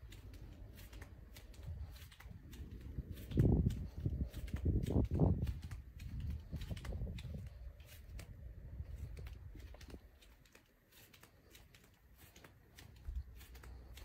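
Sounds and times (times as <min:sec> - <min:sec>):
footsteps on tiled floor: 0:00.0 - 0:14.0
small clicks on tiled floor: 0:00.0 - 0:14.0.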